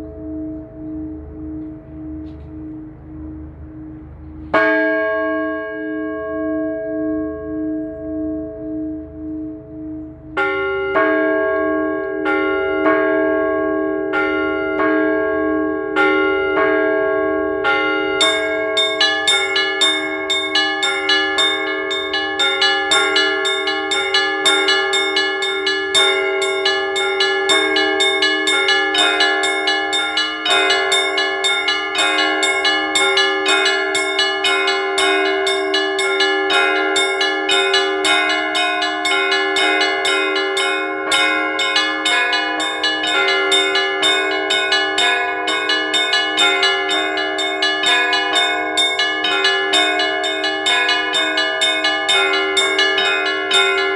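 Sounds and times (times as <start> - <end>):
large bells ringing hum: 0.0 - 53.9
small church bells striking: 0.0 - 53.9.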